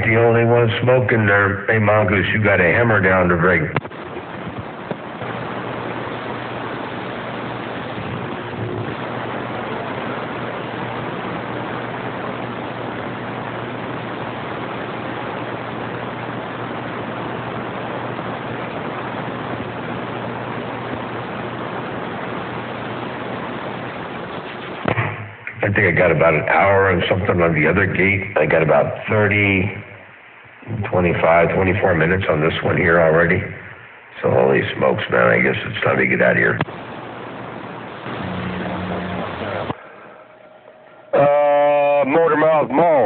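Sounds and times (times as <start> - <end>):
faint low hum: 0.0 - 43.0
radio static hiss: 0.0 - 43.0.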